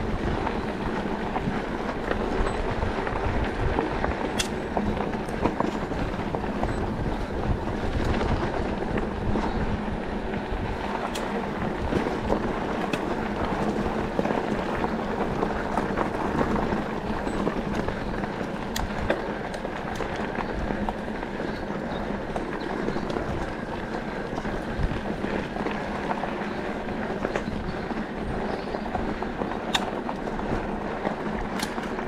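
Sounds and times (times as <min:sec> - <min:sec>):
bike clicks and rattles: 0:00.0 - 0:32.0
tyre and wind noise: 0:00.0 - 0:32.0.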